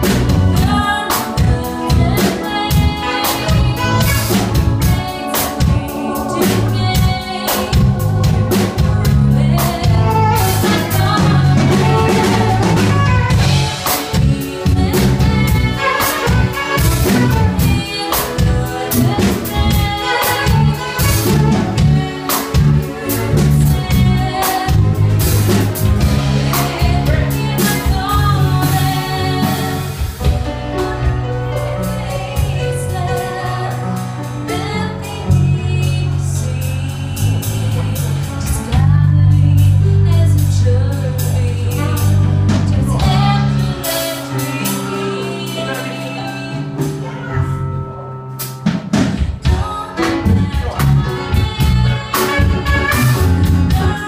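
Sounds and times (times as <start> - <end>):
woman singing: 0.0 - 47.6, 49.2 - 54.0
bass guitar: 0.0 - 54.0
drum kit beat: 0.0 - 54.0.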